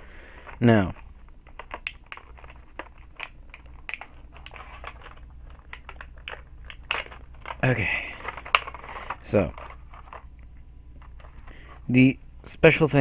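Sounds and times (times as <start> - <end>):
plastic packaging crinkling: 0.2 - 11.9.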